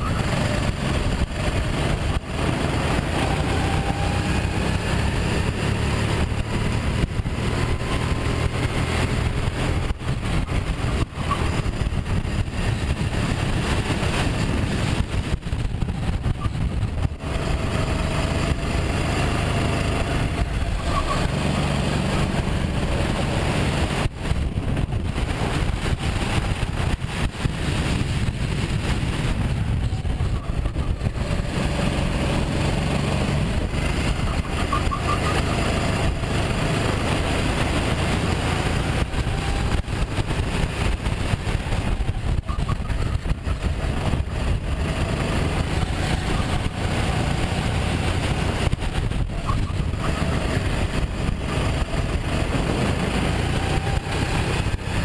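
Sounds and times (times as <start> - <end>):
kart engine revving: 0.0 - 55.0
wind noise: 0.0 - 55.0.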